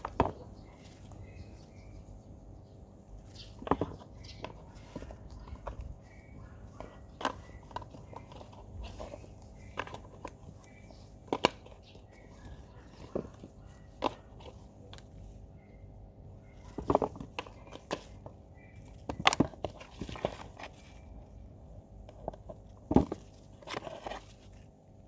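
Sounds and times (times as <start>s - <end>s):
handling knocks and crunches: 0.0s - 2.0s, 3.0s - 15.4s, 16.5s - 25.0s.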